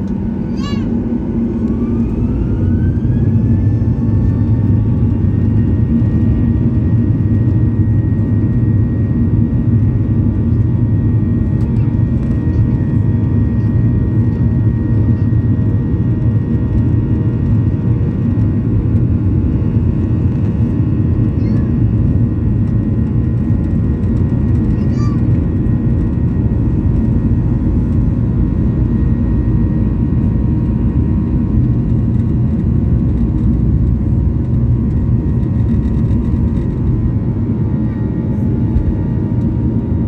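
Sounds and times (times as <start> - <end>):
jet engines whining: 0.0 - 40.0.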